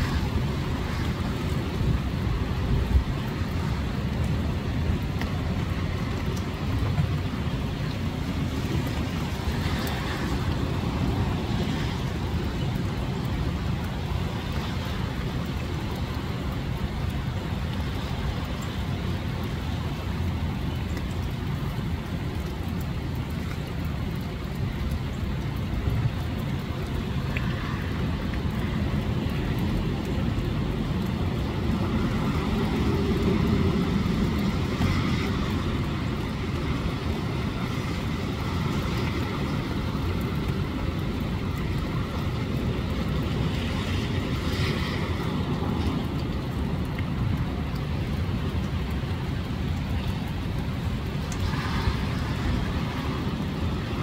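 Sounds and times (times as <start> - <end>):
storm wind gusting: 0.0 - 16.8, 25.5 - 54.0
car driving on wet street: 0.0 - 54.0
heavy rain falling: 0.0 - 54.0.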